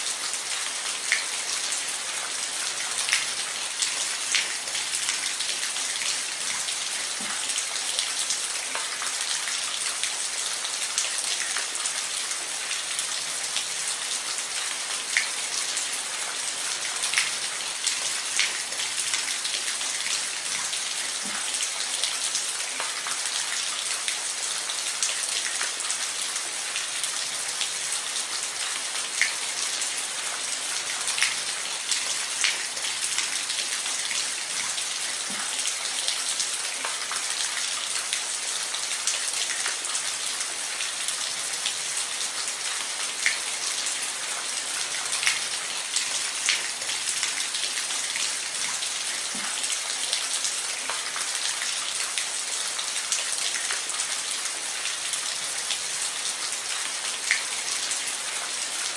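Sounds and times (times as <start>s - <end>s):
rain on a roof: 0.0s - 58.9s.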